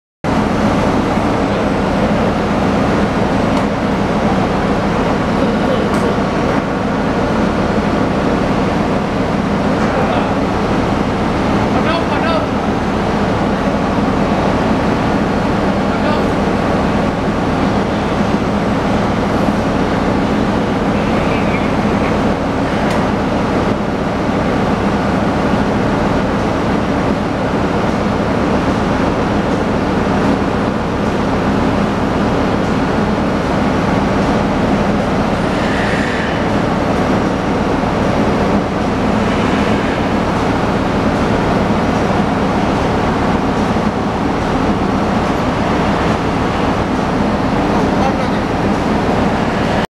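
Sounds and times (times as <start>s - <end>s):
engine room machinery rumble: 0.2s - 49.9s.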